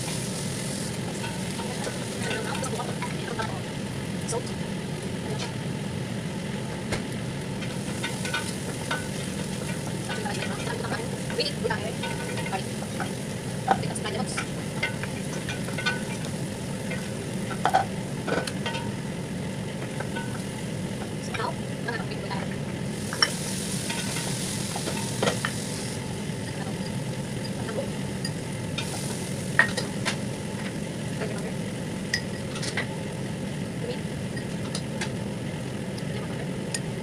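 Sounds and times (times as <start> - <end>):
onions sizzling in a pot: 0.0 - 37.0.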